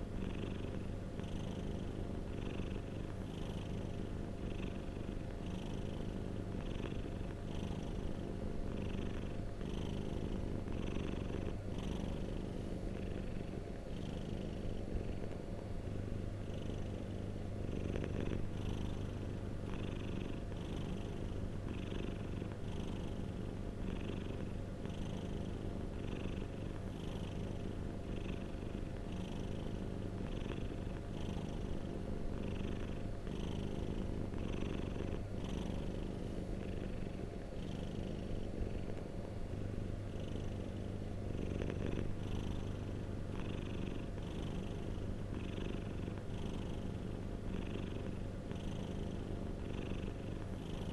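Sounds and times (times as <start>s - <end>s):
cat purring: 0.0s - 50.9s.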